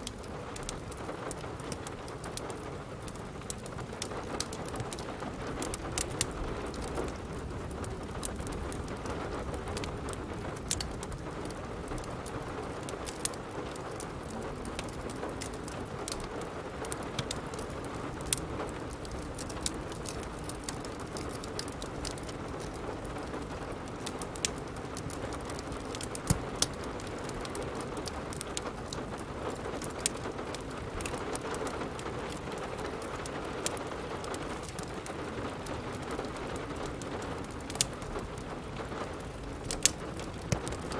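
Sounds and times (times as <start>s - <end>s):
steady rain hiss: 0.0s - 40.9s
wood fire crackling: 0.0s - 40.9s.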